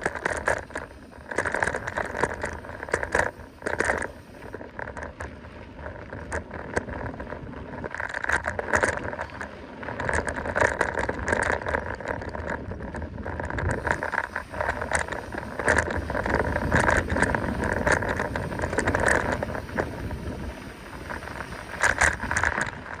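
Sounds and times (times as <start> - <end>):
bike rattling over bumps: 0.0 - 23.0
bike tyres rushing on trail: 0.0 - 23.0.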